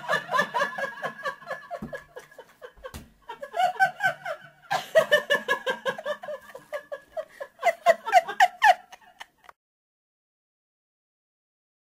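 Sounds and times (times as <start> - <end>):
people laughing: 0.0 - 9.6.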